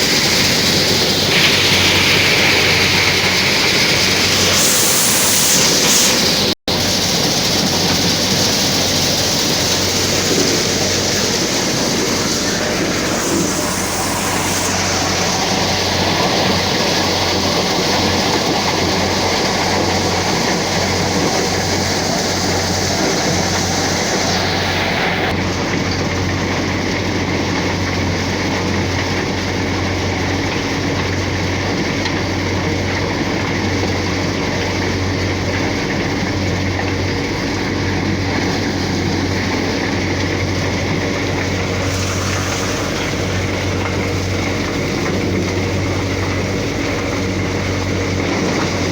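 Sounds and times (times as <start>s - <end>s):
thresher running: 0.0s - 48.9s
tractor engine: 0.0s - 48.9s.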